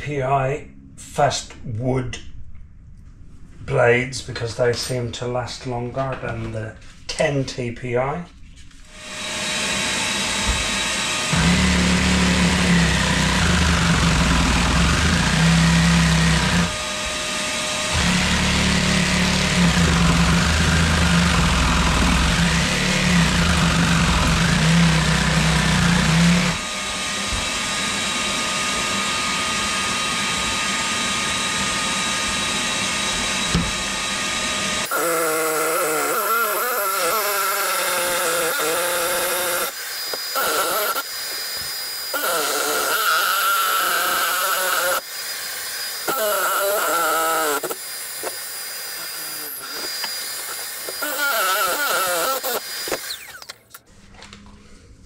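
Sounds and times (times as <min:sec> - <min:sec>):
jigsaw cutting sheet: 0:08.9 - 0:53.8.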